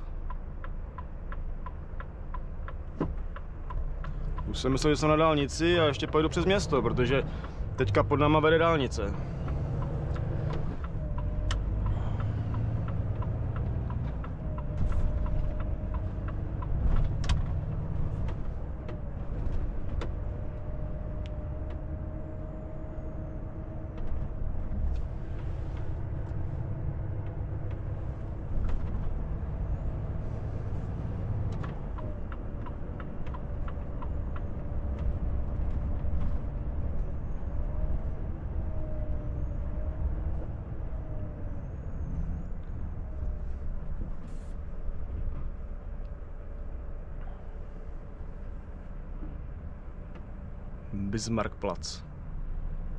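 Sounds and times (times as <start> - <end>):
truck engine and road rumble: 0.0 - 52.9.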